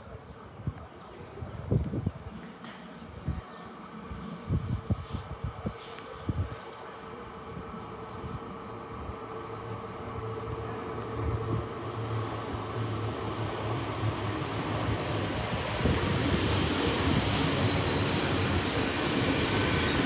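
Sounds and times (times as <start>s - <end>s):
train engine hum: 0.0s - 20.0s
train wheel noise: 1.7s - 20.0s.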